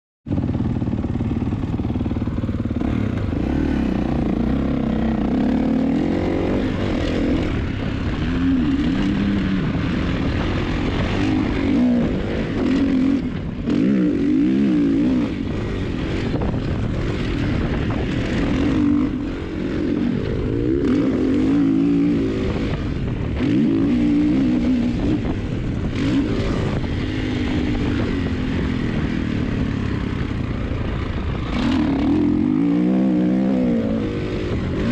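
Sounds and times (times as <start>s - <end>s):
dirt bike engine revving: 0.3s - 34.9s.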